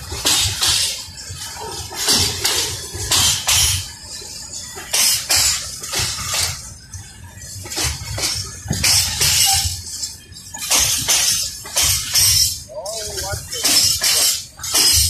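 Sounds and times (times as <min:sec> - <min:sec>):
low train rumble: 0:00.0 - 0:15.0
train wheels clanking and screeching: 0:00.0 - 0:15.0.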